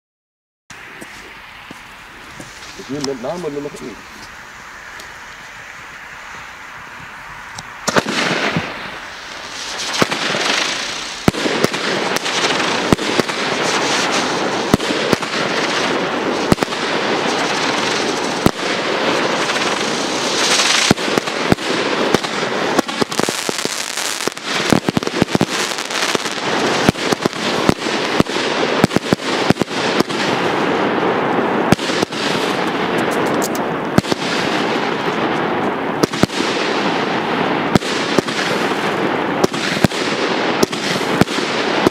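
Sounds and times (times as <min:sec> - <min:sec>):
continuous firework hiss: 0:00.7 - 0:41.9
firework shots exploding: 0:07.4 - 0:41.9.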